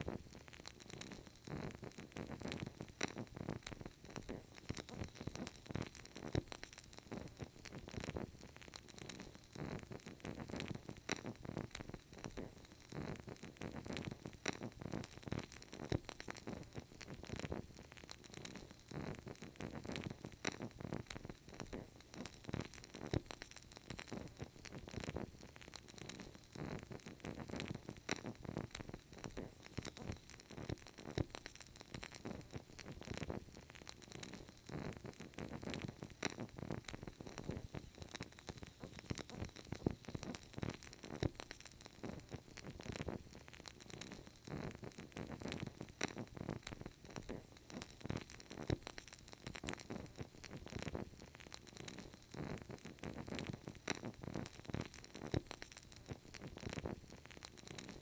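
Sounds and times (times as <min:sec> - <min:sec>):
candle wick crackling: 0:00.0 - 0:58.0
low flame hiss: 0:00.0 - 0:58.0.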